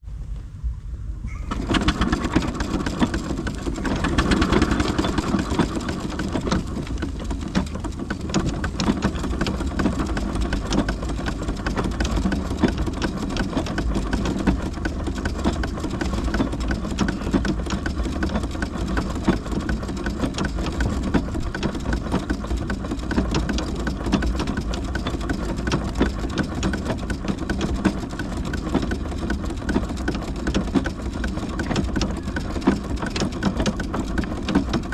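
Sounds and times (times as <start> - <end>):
steam engine clattering: 1.5 - 34.9.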